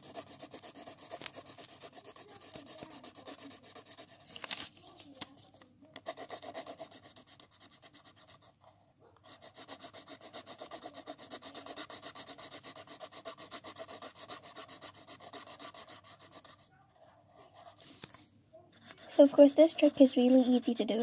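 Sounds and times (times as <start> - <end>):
pencil scribbling on paper: 0.0 - 4.4, 6.0 - 18.0, 18.7 - 21.0.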